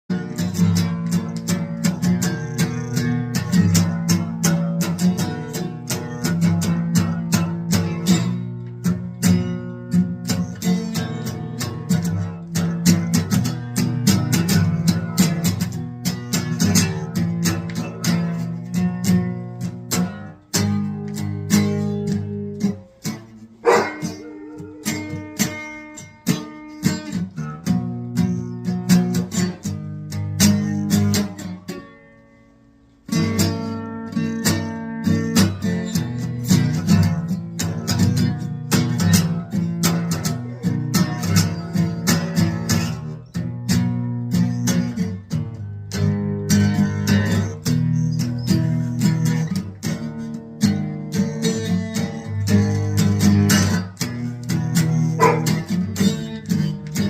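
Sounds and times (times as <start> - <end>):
acoustic guitar plucked and strummed: 0.1 - 57.0.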